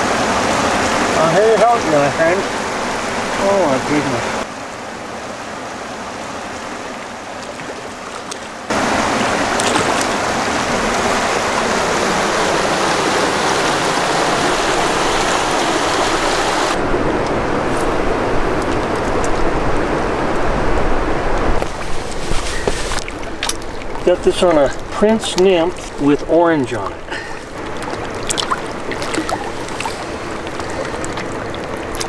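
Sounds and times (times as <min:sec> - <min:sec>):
creek water running over rocks: 0:00.0 - 0:32.0.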